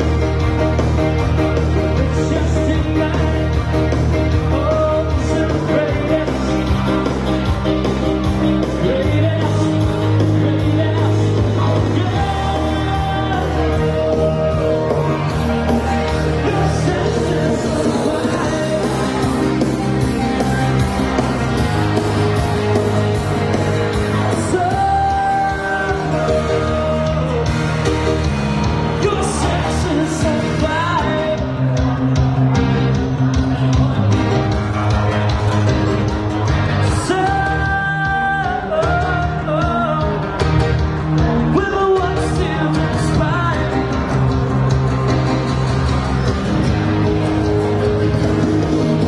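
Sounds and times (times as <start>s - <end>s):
rock music with singing: 0.0s - 49.0s.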